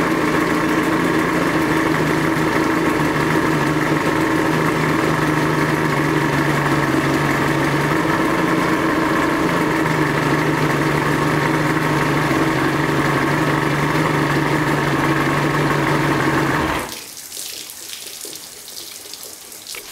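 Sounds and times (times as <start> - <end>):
outboard motor idling: 0.0 - 17.0.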